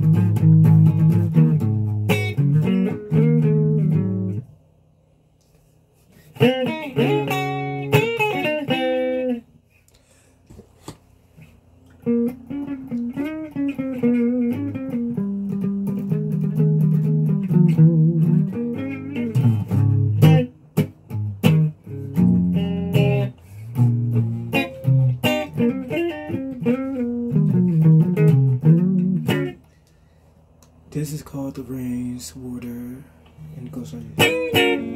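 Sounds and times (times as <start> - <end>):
electric guitar playing: 0.0 - 4.6, 6.2 - 9.5, 11.8 - 29.8, 31.8 - 34.9.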